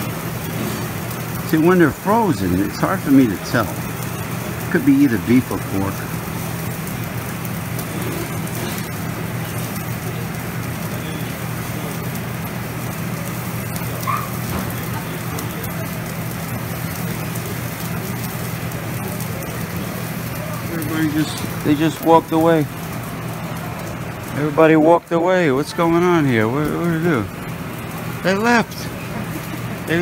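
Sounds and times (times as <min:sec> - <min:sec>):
food sizzling on griddle: 0:00.0 - 0:30.0.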